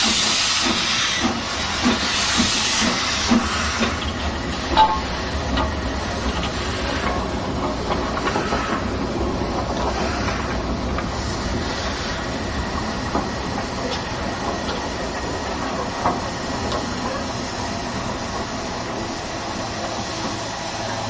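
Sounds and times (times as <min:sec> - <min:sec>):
steam locomotive rumble: 0:00.0 - 0:21.0.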